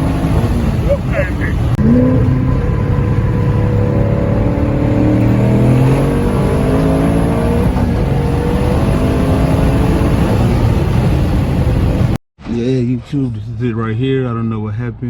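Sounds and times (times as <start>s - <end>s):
car engine running: 0.0s - 12.2s.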